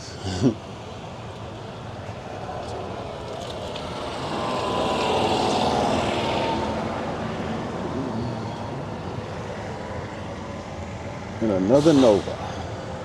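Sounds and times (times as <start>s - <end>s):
engine passing by: 1.5s - 13.0s.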